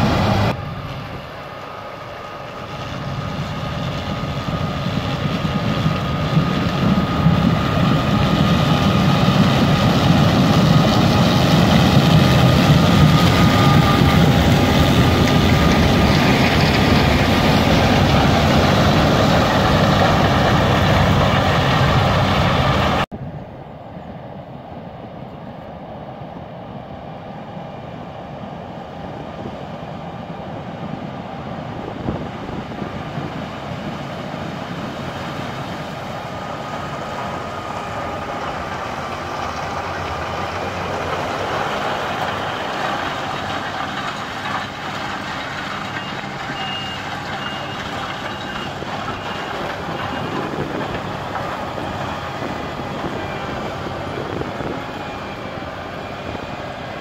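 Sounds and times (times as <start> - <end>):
combine harvester machinery whine: 0.0 - 57.0.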